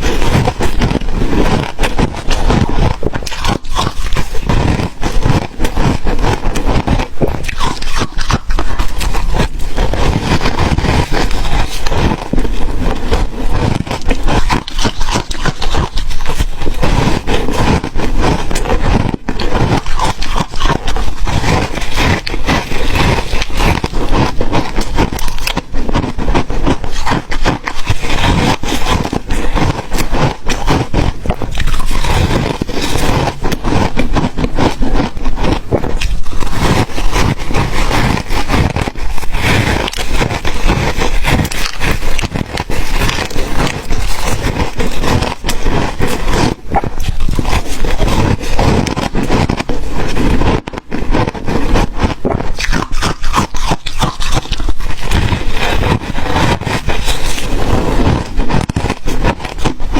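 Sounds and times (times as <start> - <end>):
ice being crunched and chewed: 0.0 - 59.9.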